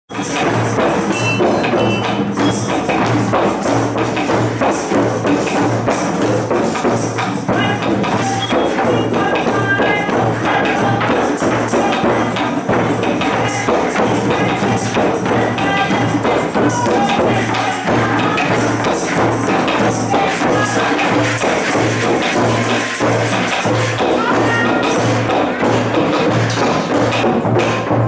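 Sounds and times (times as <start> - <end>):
hand drums beating rhythm: 0.1 - 28.0.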